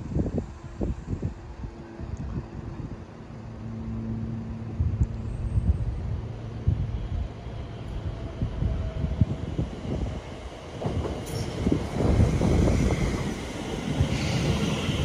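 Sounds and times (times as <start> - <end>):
train approaching with low rumble: 0.0 - 15.0.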